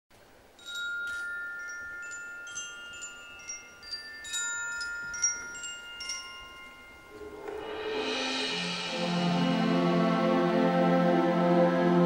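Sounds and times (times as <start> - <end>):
orchestral chimes ringing: 0.6 - 10.2.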